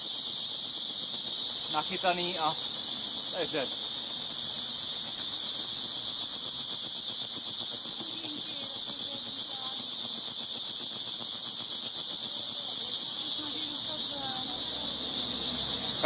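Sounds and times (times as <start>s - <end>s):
caged insects singing shrill buzz: 0.0s - 16.0s.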